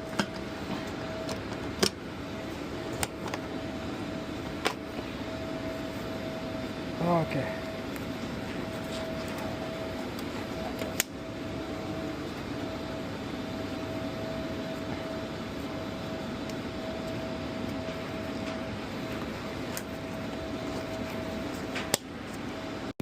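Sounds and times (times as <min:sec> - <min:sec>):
mechanical fan hum: 0:00.0 - 0:23.0.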